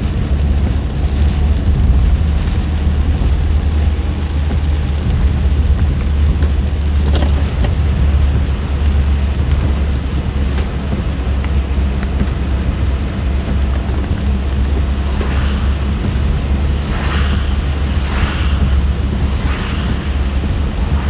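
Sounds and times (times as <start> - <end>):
rain hissing: 0.0 - 21.0
road and engine rumble: 0.0 - 21.0.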